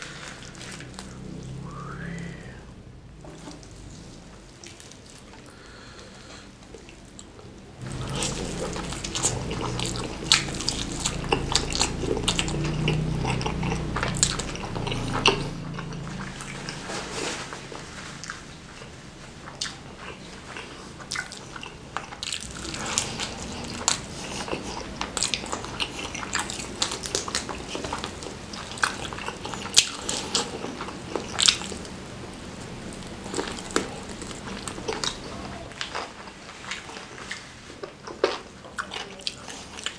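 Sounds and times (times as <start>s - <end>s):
crunchy chewing: 3.2s - 39.9s.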